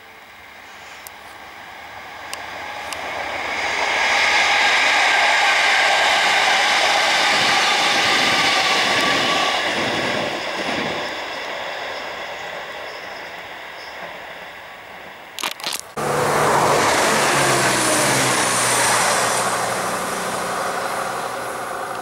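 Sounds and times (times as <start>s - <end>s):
train wheels rushing on rails: 0.4s - 22.0s.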